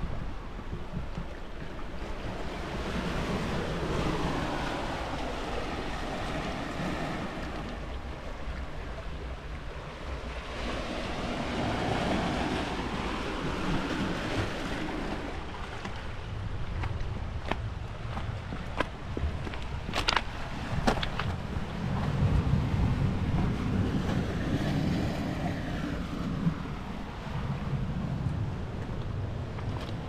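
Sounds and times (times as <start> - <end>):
wind rumble on microphone: 0.0 - 30.0
waves washing over stony beach: 1.9 - 30.0.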